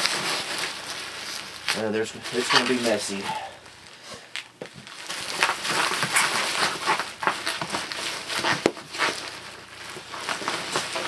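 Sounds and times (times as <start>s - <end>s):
bubble wrap rustling: 0.0s - 11.0s.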